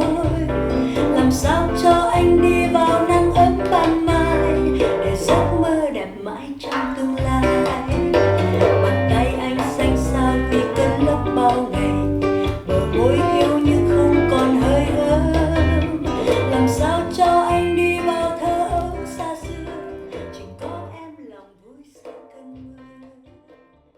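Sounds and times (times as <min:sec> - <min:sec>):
guitar and bass: 0:00.0 - 0:05.7, 0:07.2 - 0:21.0
person singing: 0:00.0 - 0:23.6.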